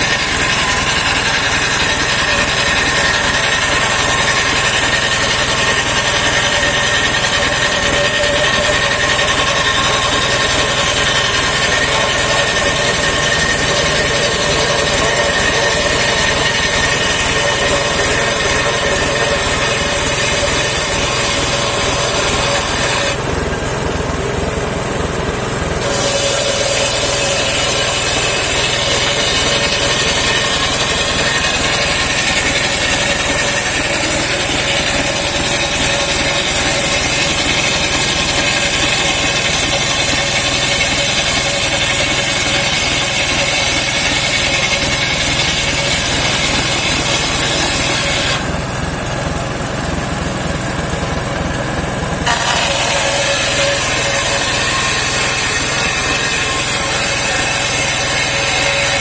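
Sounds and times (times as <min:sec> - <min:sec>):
engine running: 0:00.0 - 0:59.0
saw blade cutting wood whine: 0:00.0 - 0:59.0.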